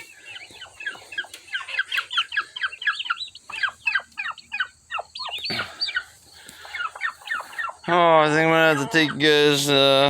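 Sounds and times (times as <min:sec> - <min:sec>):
turkey poults peeping: 0:00.0 - 0:10.0.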